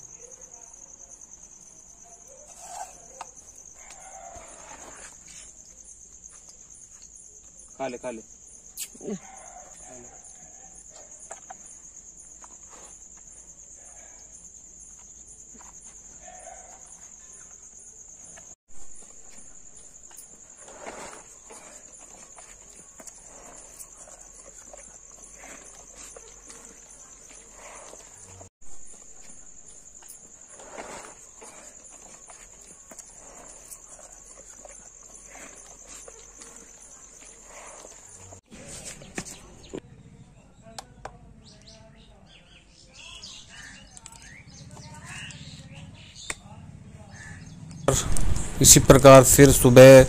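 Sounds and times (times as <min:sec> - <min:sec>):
crickets trilling: 0:00.0 - 0:40.6, 0:41.3 - 0:50.0.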